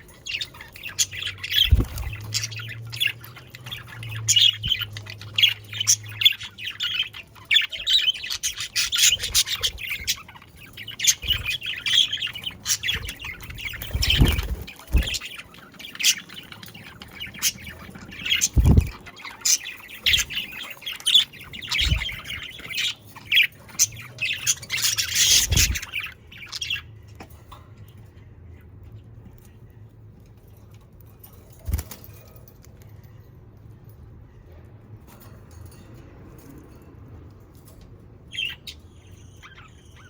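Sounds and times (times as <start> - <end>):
budgerigars chirping and squawking: 0.0 - 40.0
faint low hum: 0.0 - 40.0.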